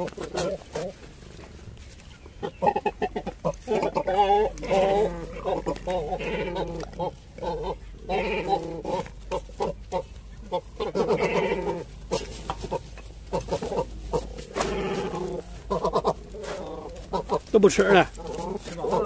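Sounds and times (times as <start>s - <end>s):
cormorants calling: 0.0s - 19.0s.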